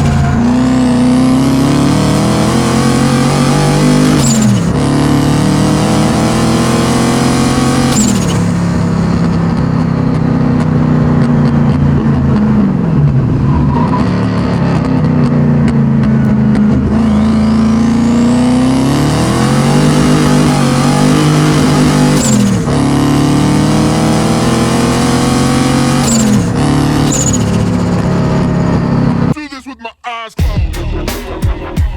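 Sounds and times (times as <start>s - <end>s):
car engine revving: 0.0s - 29.4s.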